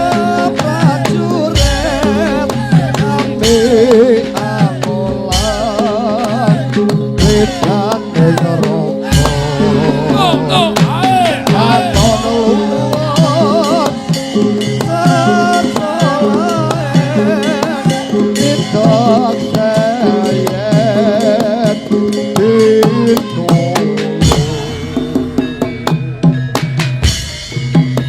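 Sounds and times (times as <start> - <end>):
drums: 0.0 - 28.0
struck percussion: 0.0 - 28.0.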